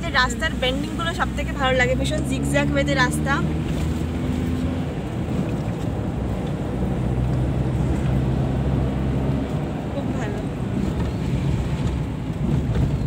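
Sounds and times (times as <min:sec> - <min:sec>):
car engine drone: 0:00.0 - 0:13.0
road and wind hiss: 0:00.0 - 0:13.0.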